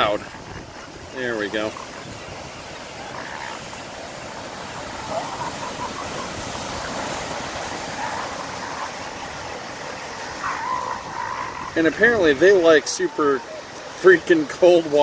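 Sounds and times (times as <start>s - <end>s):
wind noise: 0.0s - 9.6s, 10.2s - 12.7s
elephant seals calling: 0.0s - 14.1s
surf: 0.0s - 15.0s.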